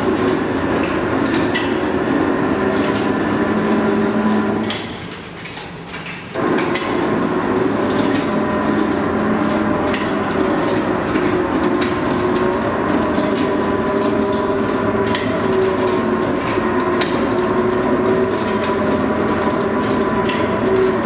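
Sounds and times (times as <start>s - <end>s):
workshop machinery humming: 0.0s - 21.0s.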